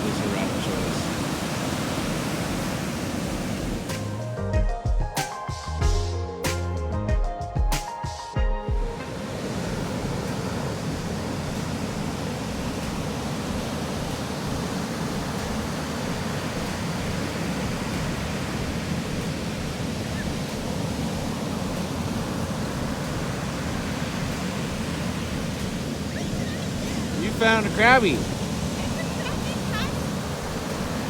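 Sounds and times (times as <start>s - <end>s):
ocean surf rushing: 0.0s - 4.5s, 8.8s - 31.0s
wind: 0.0s - 4.6s, 8.9s - 31.0s.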